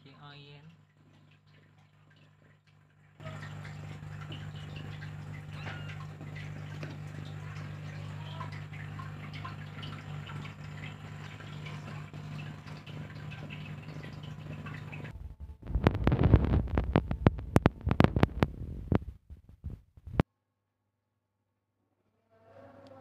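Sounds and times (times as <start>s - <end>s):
steady low hum: 0.0s - 20.2s.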